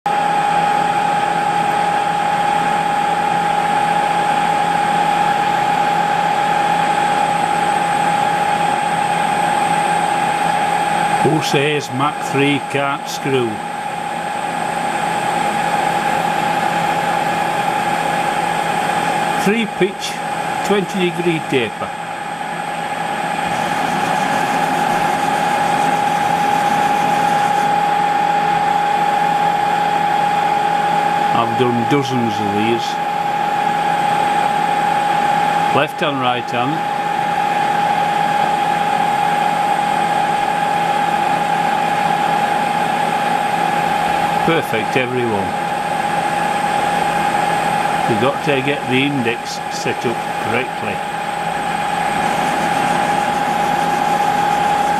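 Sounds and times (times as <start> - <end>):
lathe running with high whine: 0.1 - 54.9.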